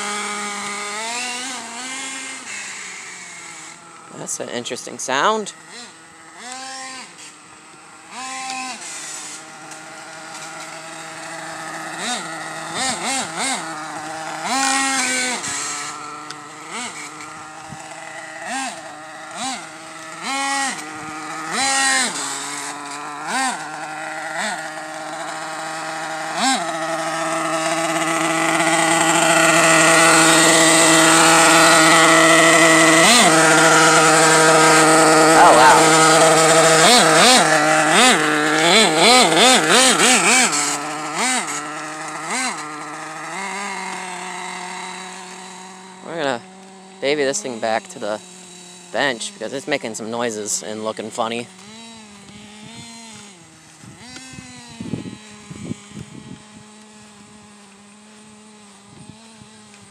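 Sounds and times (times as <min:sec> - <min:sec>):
model engine revving: 0:00.0 - 0:59.9.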